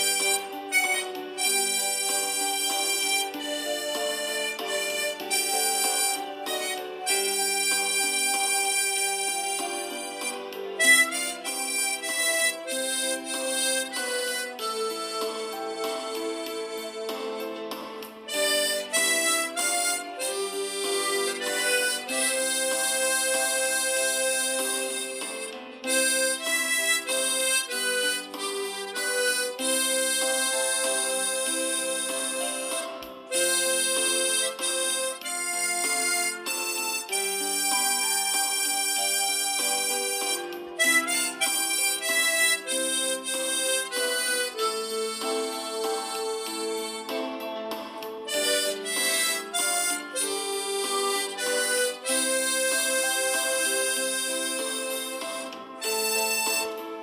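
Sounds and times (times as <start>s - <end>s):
harmonica playing slow melody: 0.0s - 57.0s.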